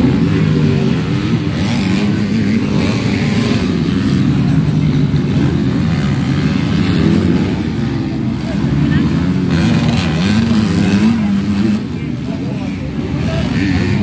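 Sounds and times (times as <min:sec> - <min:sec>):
motorbike engines revving: 0:00.0 - 0:14.0.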